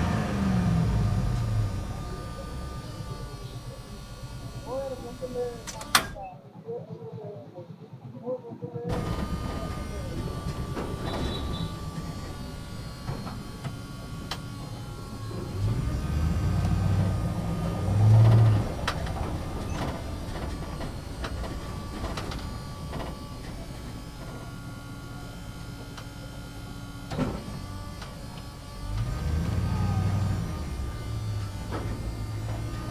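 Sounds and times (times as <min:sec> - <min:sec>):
backhoe engine humming: 0:00.0 - 0:06.3, 0:08.9 - 0:32.9.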